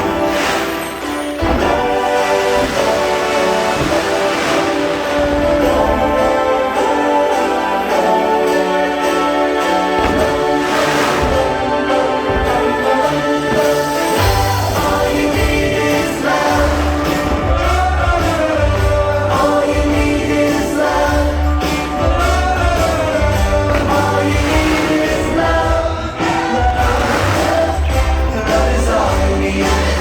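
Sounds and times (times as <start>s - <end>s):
choir-backed song over loudspeakers: 0.0s - 30.0s.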